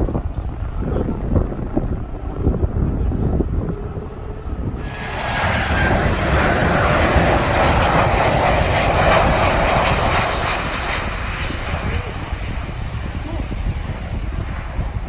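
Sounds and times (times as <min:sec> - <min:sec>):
jet engine roar: 0:00.1 - 0:15.0.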